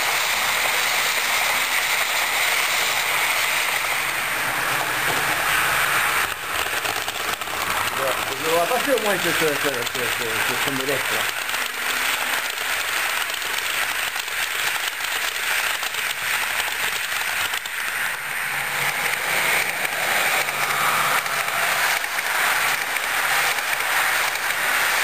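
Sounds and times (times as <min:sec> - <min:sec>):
model train wheels clattering: 0:00.0 - 0:25.0.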